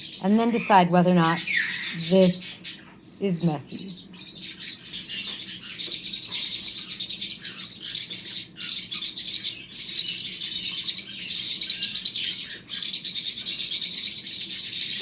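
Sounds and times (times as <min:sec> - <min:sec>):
parrotlets chirping: 0:00.0 - 0:15.0.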